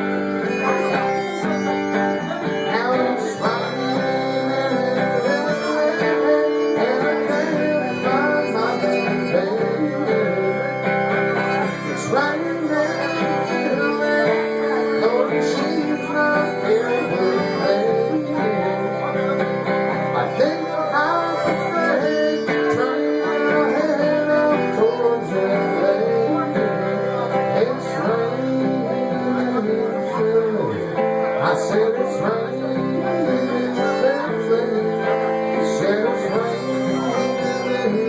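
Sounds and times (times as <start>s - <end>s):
country band playing: 0.0s - 38.0s
guitar lead with bending notes: 0.0s - 38.0s.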